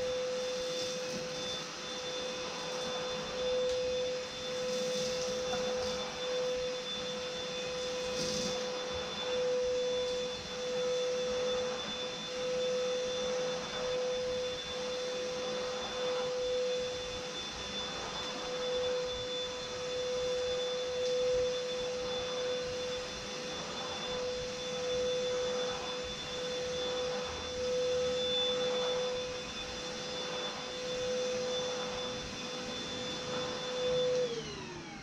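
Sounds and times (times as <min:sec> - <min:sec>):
stick vacuum running: 0:00.0 - 0:35.0.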